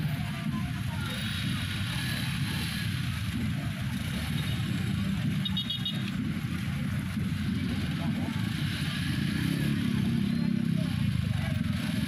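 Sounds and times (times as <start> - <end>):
engine rumble of idling traffic: 0.0 - 12.0.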